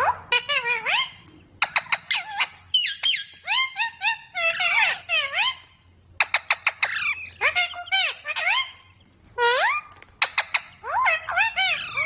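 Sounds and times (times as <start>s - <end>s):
harsh parrot calls: 0.0s - 12.0s
parrot squeaks: 0.0s - 12.0s.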